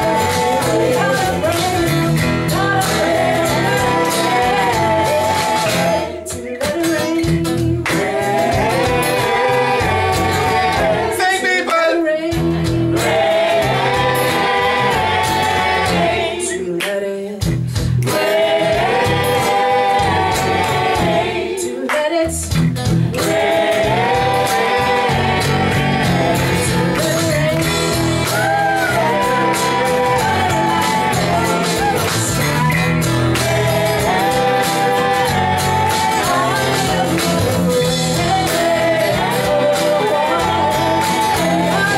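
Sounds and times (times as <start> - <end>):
electric bass: 0.0 - 6.3, 7.0 - 11.2, 12.4 - 16.5, 17.4 - 21.5, 22.3 - 41.9
woman singing: 0.0 - 11.2, 12.0 - 22.6, 23.2 - 41.9
acoustic guitars: 0.0 - 41.9.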